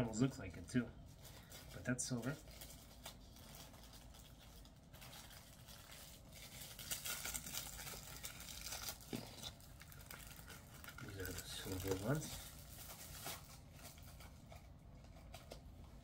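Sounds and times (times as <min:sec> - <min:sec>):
packaging crinkling and rustling: 0:00.6 - 0:16.0.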